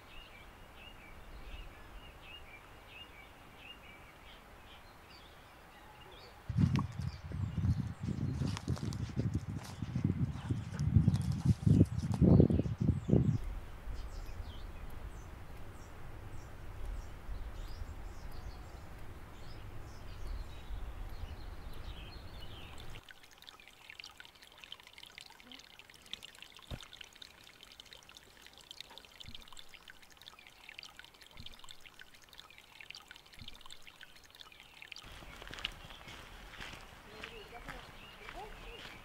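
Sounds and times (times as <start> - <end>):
small birds chirping: 0.0 - 23.8, 25.2 - 39.0
running water: 0.0 - 39.0.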